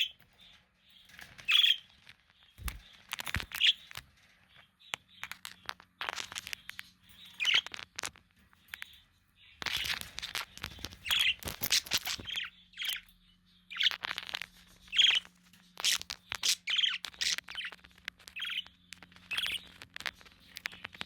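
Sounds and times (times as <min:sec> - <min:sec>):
budgerigars chirping and squawking: 0:00.0 - 0:21.0.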